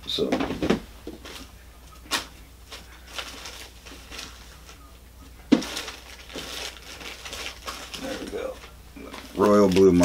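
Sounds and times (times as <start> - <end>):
crinkling rustle: 1.2 - 4.8, 5.5 - 10.0.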